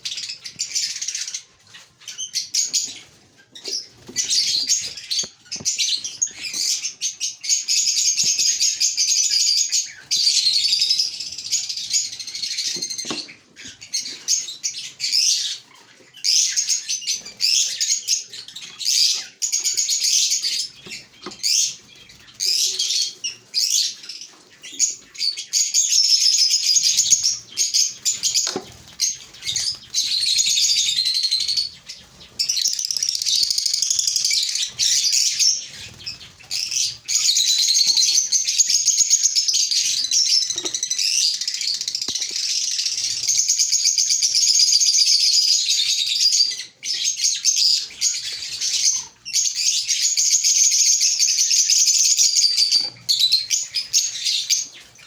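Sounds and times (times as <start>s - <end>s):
lovebirds chattering: 0.0s - 55.0s.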